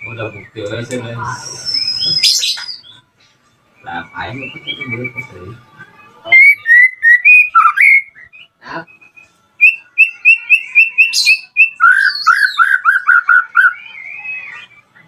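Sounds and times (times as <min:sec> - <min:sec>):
songbird singing: 0:00.0 - 0:03.1, 0:03.7 - 0:15.0.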